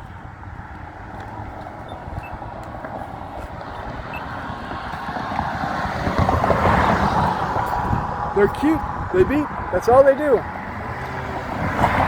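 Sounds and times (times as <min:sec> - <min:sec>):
street traffic passing: 0:00.0 - 0:12.0
vehicle approaching: 0:00.0 - 0:12.0.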